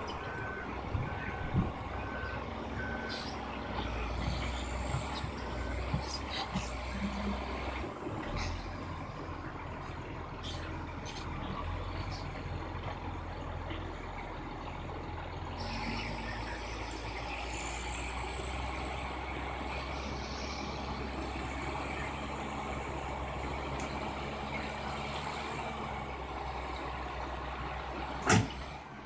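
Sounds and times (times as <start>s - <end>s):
bulldozer diesel engines droning: 0.0s - 29.0s
track and machine noise: 0.0s - 29.0s.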